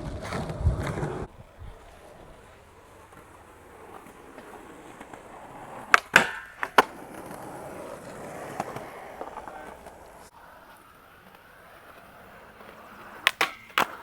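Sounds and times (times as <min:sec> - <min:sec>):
skateboard clacks: 0:00.0 - 0:14.0
skateboard wheels rolling on pavement: 0:00.0 - 0:14.0.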